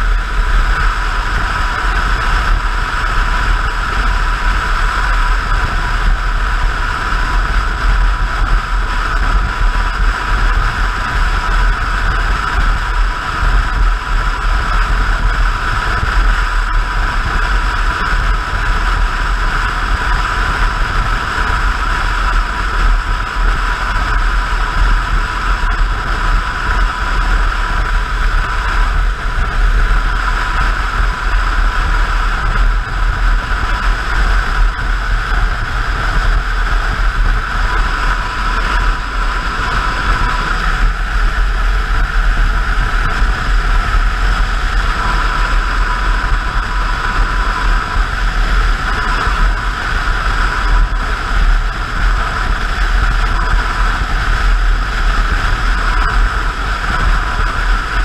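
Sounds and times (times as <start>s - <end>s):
motorcycle engine drone: 0.0s - 58.0s
wind rush over microphone: 0.0s - 58.0s.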